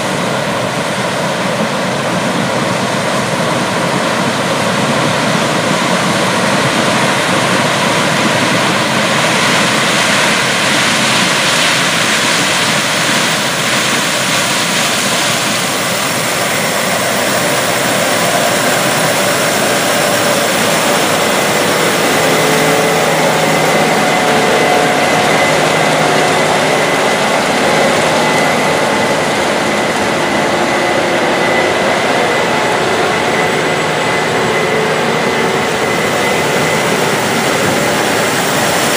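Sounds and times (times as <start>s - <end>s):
combine harvester running: 0.0s - 38.9s
high whine: 0.0s - 38.9s
low hum: 2.1s - 38.9s.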